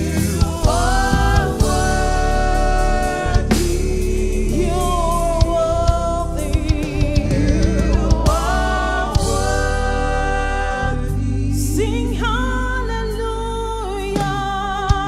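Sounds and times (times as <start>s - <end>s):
live band with drum kit: 0.0s - 11.2s, 14.1s - 15.0s
voices singing long notes: 0.0s - 12.8s.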